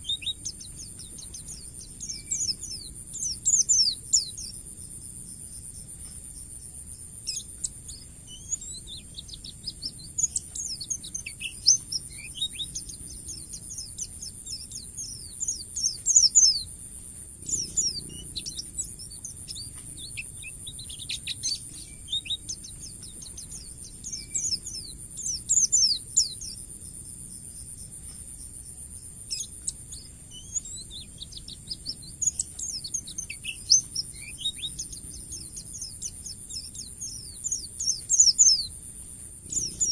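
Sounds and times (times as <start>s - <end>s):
bird singing rapid chirps and trills: 0.0s - 39.9s
steady high-pitched whine: 0.0s - 39.9s.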